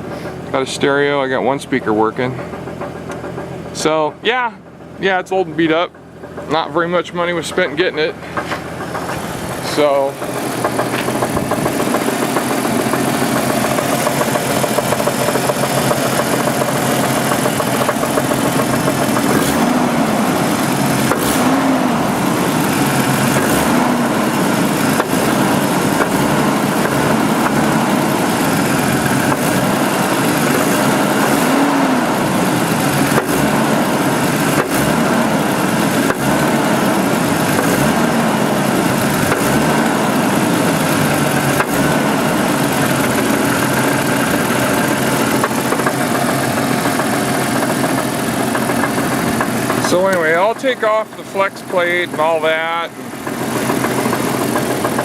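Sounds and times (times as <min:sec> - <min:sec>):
engine idling with a knock: 0:01.4 - 0:19.8, 0:20.4 - 0:21.6, 0:22.4 - 0:31.6, 0:32.6 - 0:55.0.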